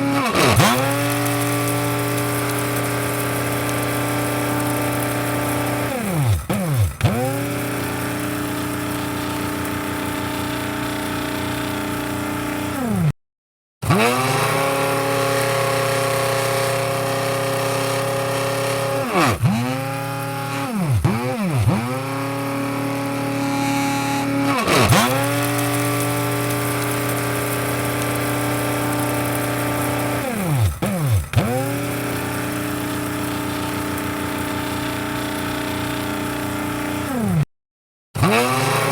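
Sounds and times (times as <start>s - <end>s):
electric coffee grinder whining: 0.0s - 13.1s, 13.8s - 37.5s, 38.2s - 38.9s.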